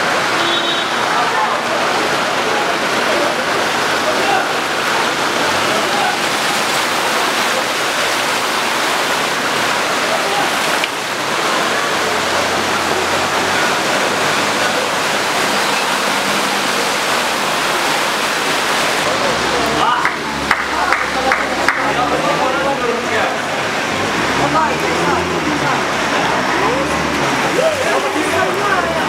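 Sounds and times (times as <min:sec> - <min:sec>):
vehicle engine humming: 0:00.0 - 0:29.0
water rushing: 0:00.0 - 0:29.0.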